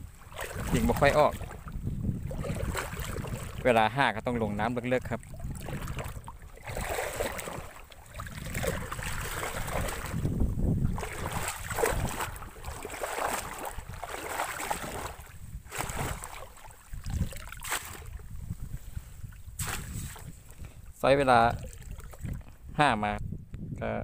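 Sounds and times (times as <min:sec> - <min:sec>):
water sloshing and splashing: 0:00.0 - 0:22.7
wind rumbling on microphone: 0:00.0 - 0:24.0.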